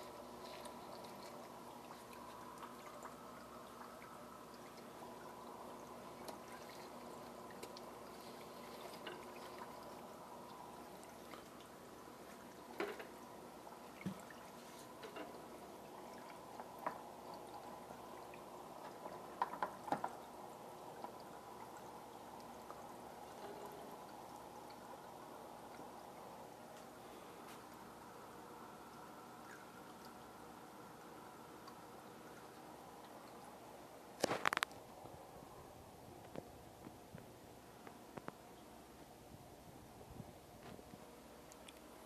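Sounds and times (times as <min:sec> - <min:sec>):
aquarium filter water pouring: 0:00.0 - 0:35.0
faint steady hum: 0:00.0 - 0:42.0.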